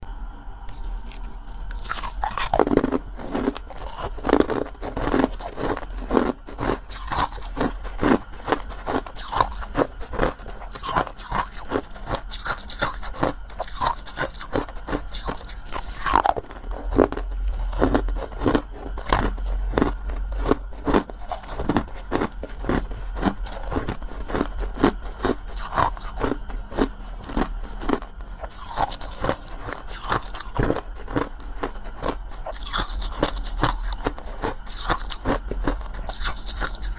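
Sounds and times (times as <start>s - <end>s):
crunchy chewing: 0.6s - 36.9s.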